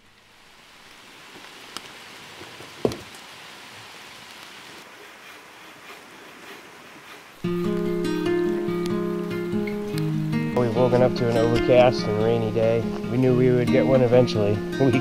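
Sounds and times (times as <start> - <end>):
light rain on water: 0.0 - 15.0.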